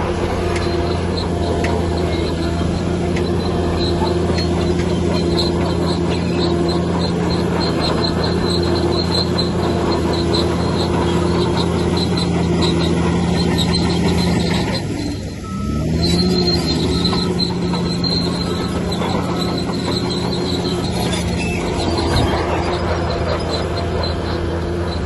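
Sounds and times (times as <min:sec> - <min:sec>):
bulldozer diesel engine: 0:00.0 - 0:25.0
steel tracks squeaking: 0:00.0 - 0:25.0.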